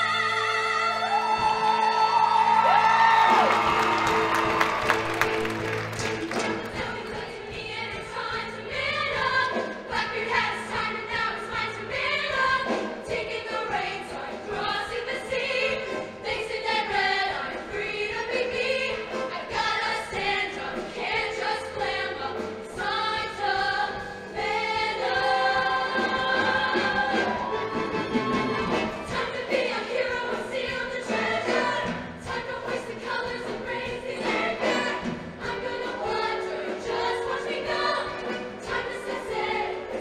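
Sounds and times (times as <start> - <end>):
choir singing in harmony: 0.0 - 40.0
instrumental accompaniment: 2.8 - 40.0.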